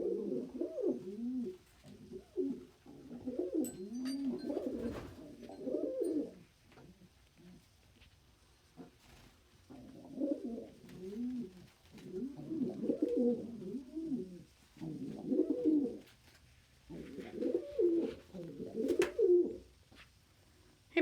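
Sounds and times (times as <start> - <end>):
pigeons cooing: 0.0 - 7.6, 9.7 - 16.1, 16.9 - 19.7.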